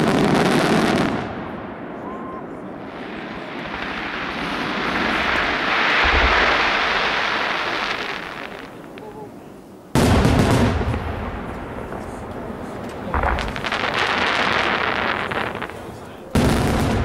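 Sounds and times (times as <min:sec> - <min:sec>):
fireworks shells booming: 0:00.0 - 0:17.0
fireworks hissing rush: 0:02.6 - 0:17.0.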